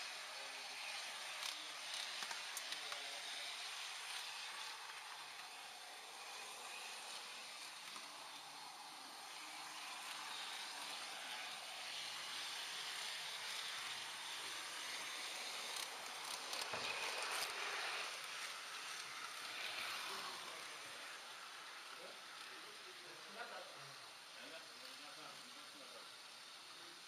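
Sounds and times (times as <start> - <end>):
model train rolling on track: 0.0 - 27.0.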